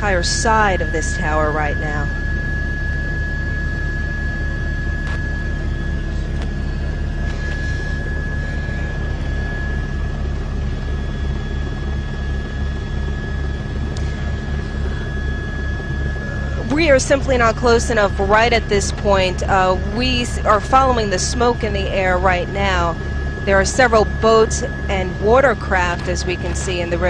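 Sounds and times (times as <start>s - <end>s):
helicopter rotor beating: 0.0s - 27.0s
high engine whine: 0.0s - 27.0s.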